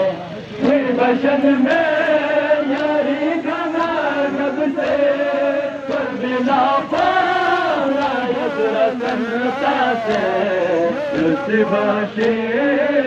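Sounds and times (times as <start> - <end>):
man chanting over loudspeaker: 0.0 - 13.0
faint beat: 0.4 - 13.0.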